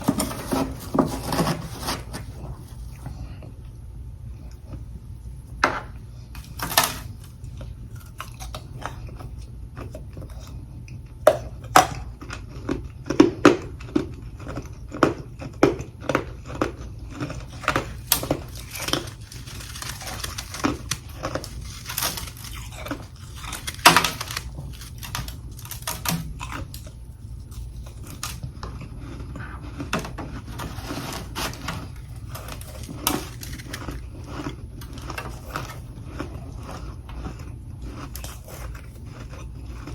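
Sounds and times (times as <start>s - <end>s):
person crunching frost: 0.0s - 3.5s, 6.2s - 10.8s, 11.4s - 39.9s.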